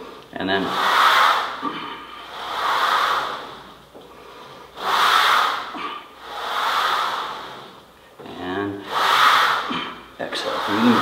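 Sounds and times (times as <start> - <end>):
man breathing heavily: 0.0 - 11.0.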